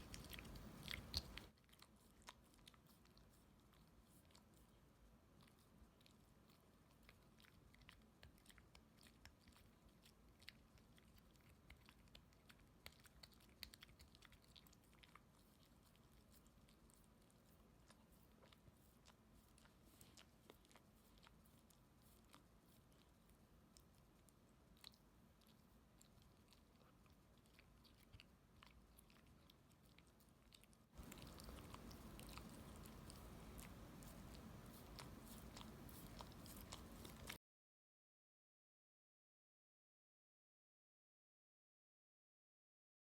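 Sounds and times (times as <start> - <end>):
dog chewing toenails: 0.0 - 37.4.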